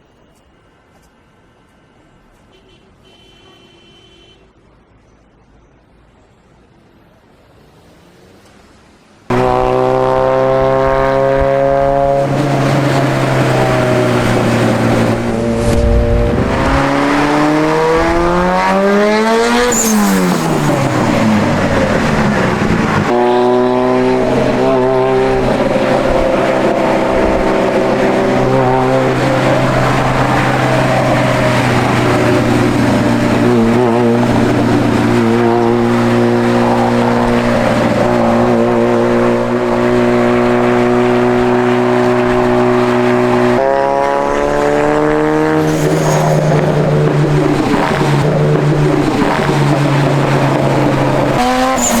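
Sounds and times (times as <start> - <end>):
car engine revving: 9.3 - 52.0.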